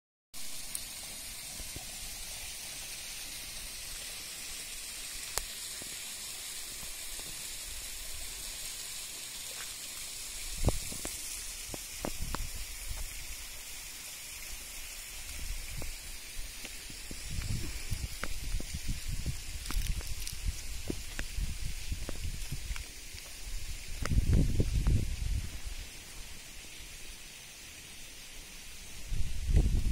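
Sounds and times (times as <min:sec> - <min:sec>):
high outdoor hiss: 0:00.4 - 0:29.9.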